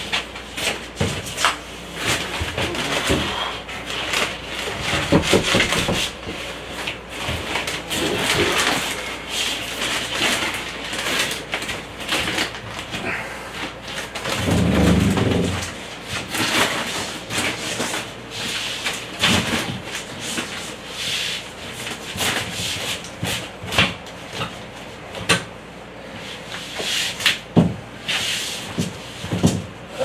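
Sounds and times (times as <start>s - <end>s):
drywall scraping and knocking: 0.0s - 24.6s, 26.3s - 30.0s.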